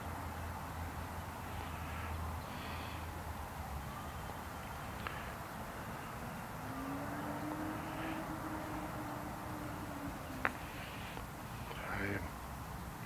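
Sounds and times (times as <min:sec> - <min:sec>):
distant engine hum: 0:00.0 - 0:13.0
outdoor background rumble: 0:00.0 - 0:13.0.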